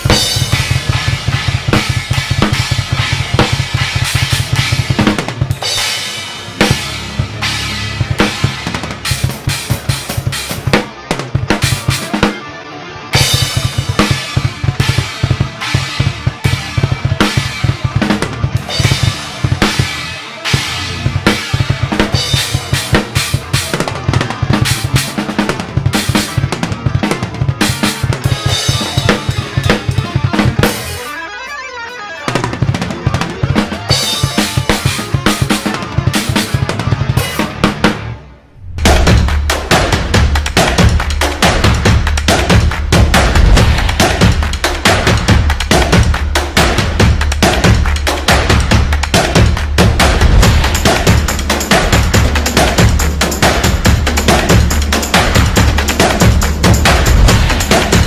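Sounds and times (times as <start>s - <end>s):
drum kit played fast: 0.0s - 12.4s, 13.1s - 58.0s
song backing track: 0.0s - 58.0s.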